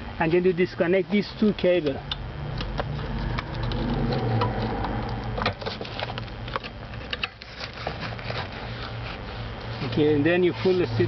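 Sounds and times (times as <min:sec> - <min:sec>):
seat motor humming: 0:01.4 - 0:11.0.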